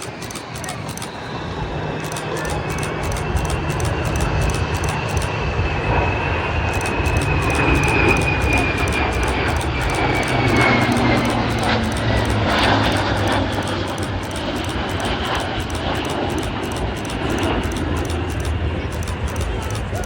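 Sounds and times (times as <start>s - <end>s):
airplane engine drone and whine: 0.0s - 20.0s.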